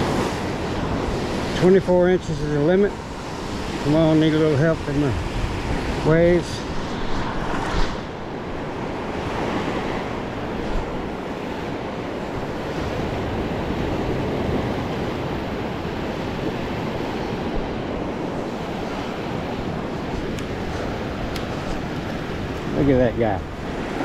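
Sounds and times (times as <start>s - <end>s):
waves breaking on a beach: 0.0s - 24.0s.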